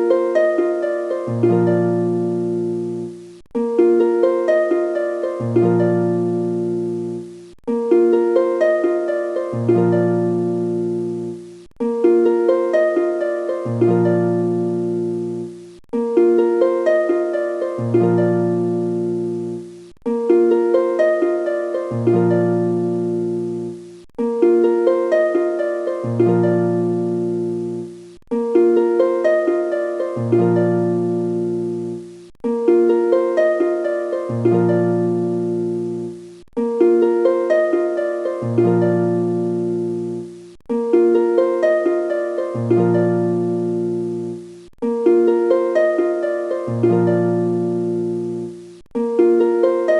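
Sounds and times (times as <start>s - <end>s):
plucked harp-like phrase: 0.0s - 49.9s.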